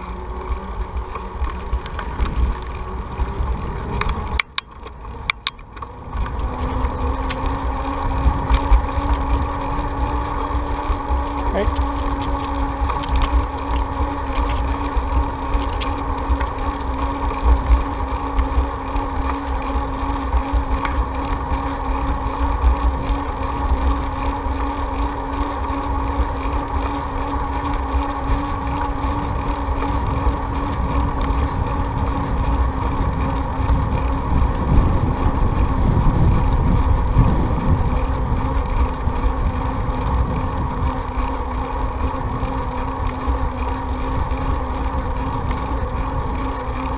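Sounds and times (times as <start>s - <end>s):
steady droning hum: 0.0s - 46.9s
wind rumbling on microphone: 0.0s - 46.9s.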